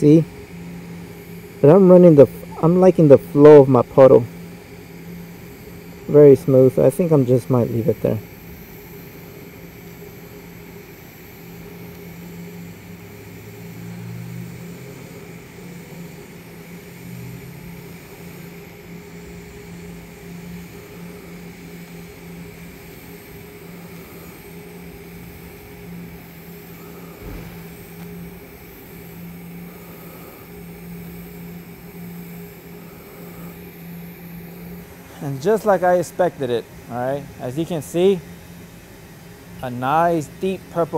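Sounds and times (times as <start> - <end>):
low hum: 0.0 - 40.9
welding arc hissing: 0.0 - 40.9.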